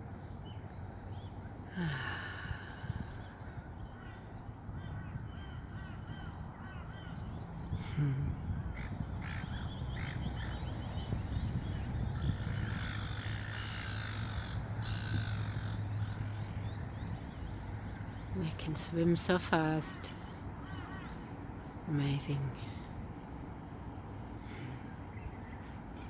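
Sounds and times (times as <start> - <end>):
seabirds calling: 0.0 - 26.0.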